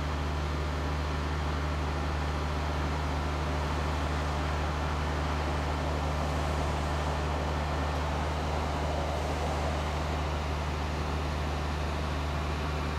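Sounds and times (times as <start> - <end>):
truck engine idling: 0.0 - 12.9.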